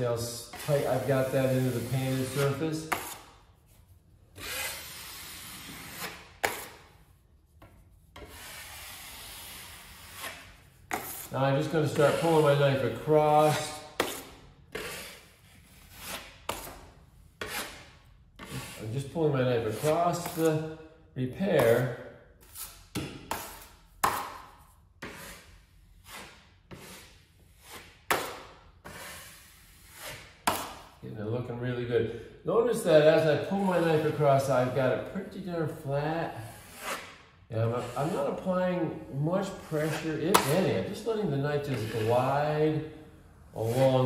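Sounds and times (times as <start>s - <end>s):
taping knife scraping compound: 0.0s - 20.9s, 21.6s - 31.0s, 32.8s - 35.2s, 35.8s - 42.8s, 43.5s - 44.0s.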